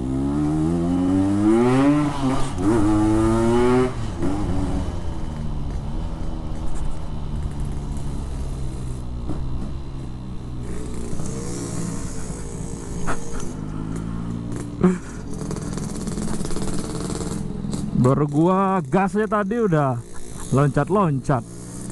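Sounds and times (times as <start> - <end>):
two-stroke motorcycle engine: 0.0 - 21.9.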